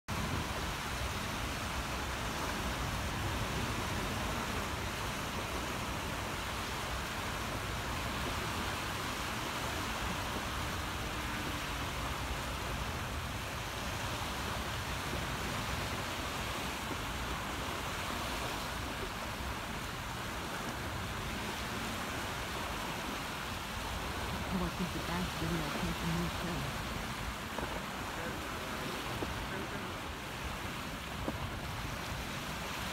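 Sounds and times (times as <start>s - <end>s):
small waves breaking on shore: 0.1s - 32.9s
wind rumbling on microphone: 0.1s - 32.9s.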